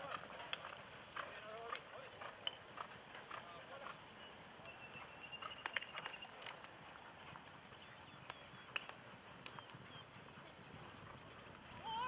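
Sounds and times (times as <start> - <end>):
hoofbeats: 0.0 - 12.0.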